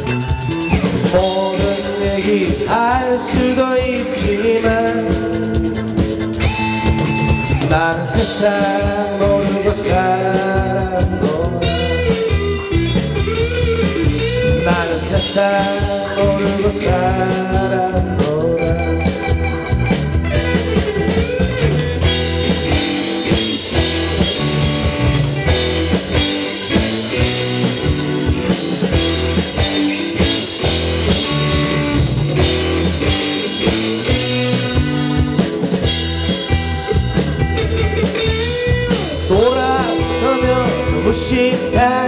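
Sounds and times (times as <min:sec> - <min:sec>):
bass guitar: 0:00.0 - 0:42.0
drum kit: 0:00.0 - 0:42.0
electric guitar: 0:00.0 - 0:42.0
keyboard: 0:00.0 - 0:42.0.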